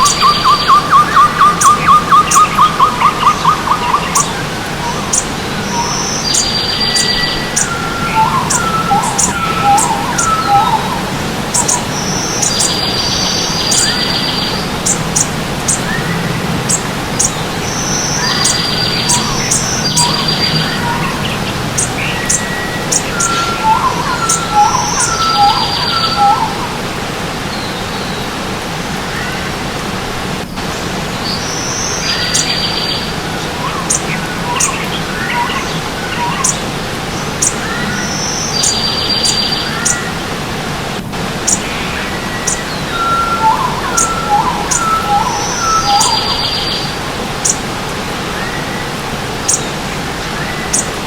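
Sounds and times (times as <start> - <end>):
birds chirping and trilling: 0.0 - 29.7, 30.4 - 51.0
stream water rushing: 0.0 - 51.0.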